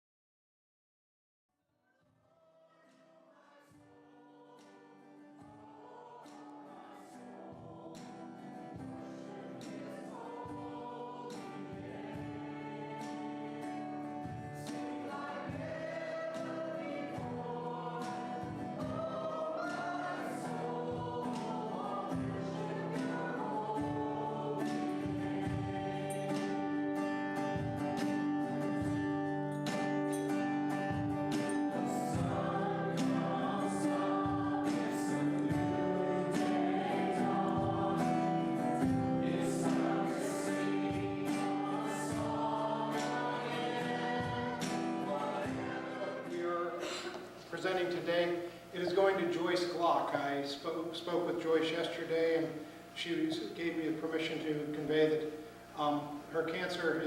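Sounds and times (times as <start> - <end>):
choir singing a hymn: 2.6 - 52.5.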